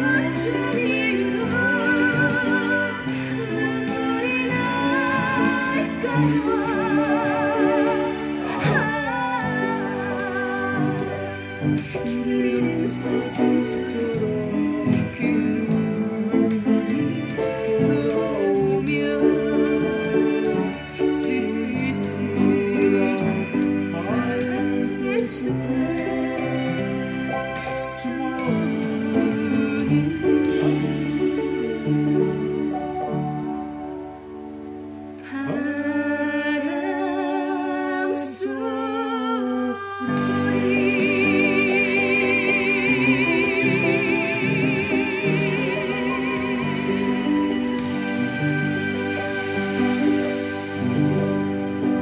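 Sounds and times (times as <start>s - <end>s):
woman singing a slow ballad: 0.0s - 33.6s, 35.1s - 52.0s
upright piano playing: 0.0s - 52.0s.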